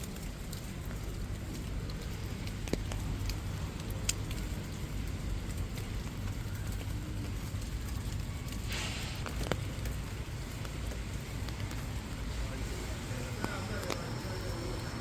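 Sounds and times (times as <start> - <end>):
raindrop taps: 0.0 - 14.9
rain patter: 0.0 - 15.0
traffic rumble: 0.0 - 15.0.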